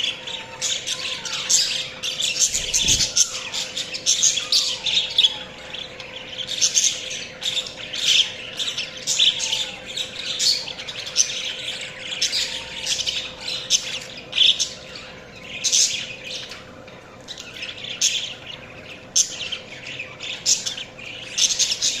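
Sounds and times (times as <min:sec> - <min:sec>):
budgerigars chirping and chattering: 0:00.0 - 0:22.0.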